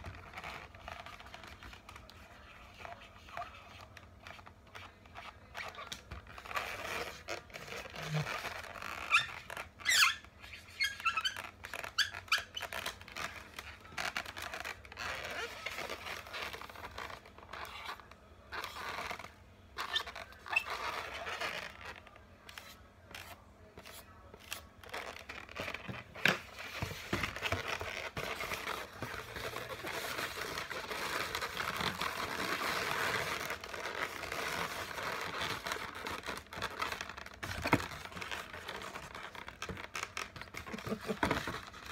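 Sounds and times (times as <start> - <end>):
balloons rustling: 0.0 - 41.9
balloons squeaking: 0.0 - 41.9.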